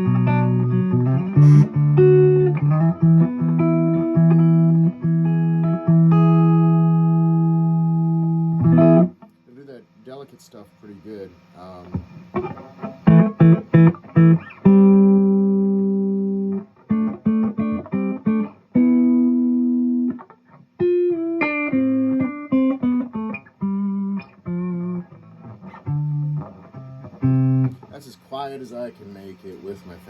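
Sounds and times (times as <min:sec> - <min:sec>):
electric guitar played softly: 0:00.0 - 0:09.4, 0:11.6 - 0:28.0.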